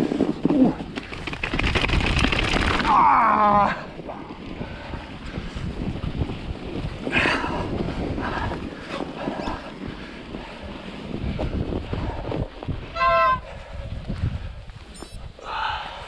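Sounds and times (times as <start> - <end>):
bicycle rolling through snow: 0.0 - 16.0
wind buffeting microphone: 0.0 - 16.0.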